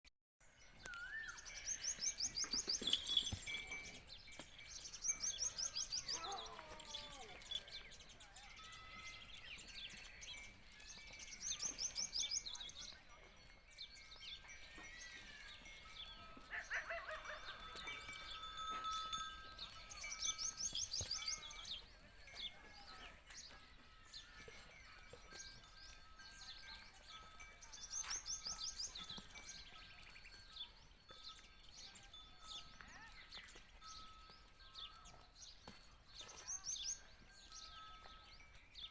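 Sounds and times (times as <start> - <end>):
birds chirping and whistling: 0.5 - 38.9.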